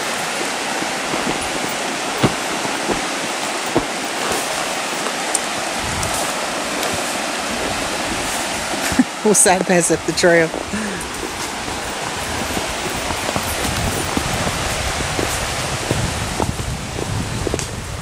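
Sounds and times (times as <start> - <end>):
river rapids rushing: 0.0 - 16.6.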